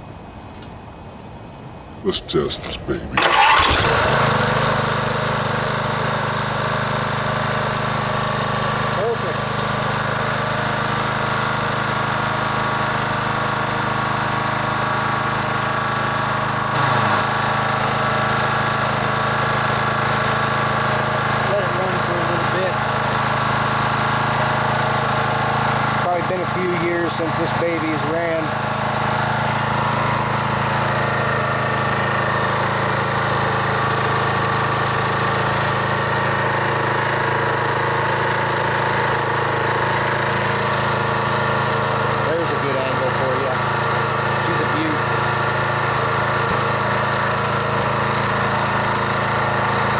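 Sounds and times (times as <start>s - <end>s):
push mower engine running: 3.2s - 49.9s.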